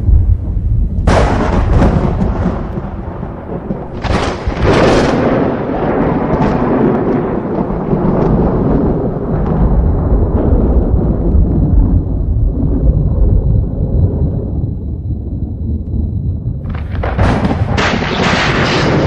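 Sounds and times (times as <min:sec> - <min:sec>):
thunder rumbling and cracking: 0:00.0 - 0:19.0.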